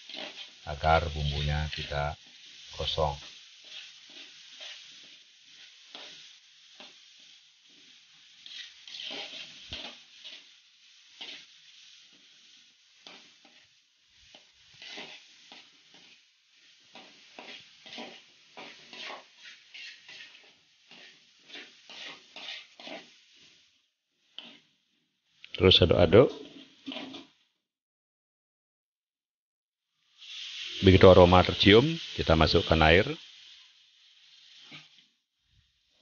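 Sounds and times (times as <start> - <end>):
metal spatula scraping wok: 0.0 - 24.8, 26.1 - 27.4, 30.2 - 35.1
paste sizzling in oil: 0.0 - 27.5, 29.9 - 36.0.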